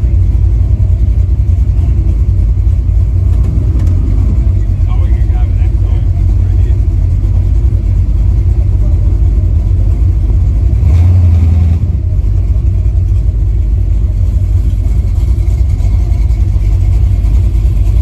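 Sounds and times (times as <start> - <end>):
pickup truck engine droning: 0.0 - 18.0
road noise: 0.0 - 18.0.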